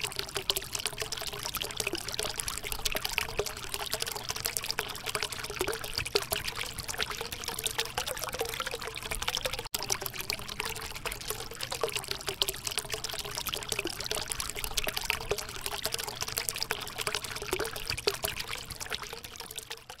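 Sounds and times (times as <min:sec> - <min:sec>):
fountain water splashing over stones: 0:00.0 - 0:20.0.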